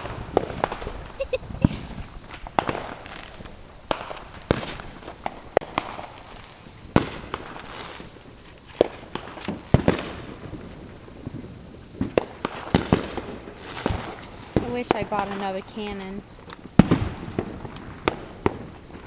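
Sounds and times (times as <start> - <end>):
fireworks banging: 0.0 - 19.0.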